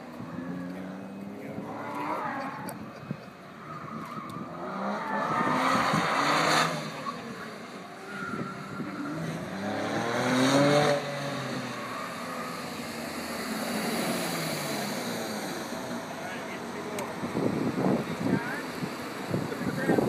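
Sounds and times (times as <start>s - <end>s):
sports car engine revving: 3.8s - 20.0s.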